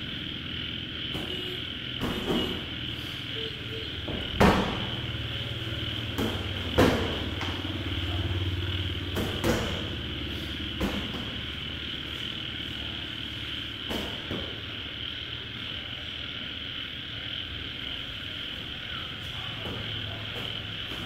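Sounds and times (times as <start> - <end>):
steady high drone: 0.0 - 21.0.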